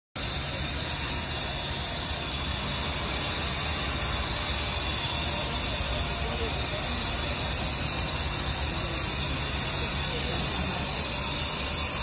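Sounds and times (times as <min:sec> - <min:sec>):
industrial equipment hissing roar: 0:00.2 - 0:12.0.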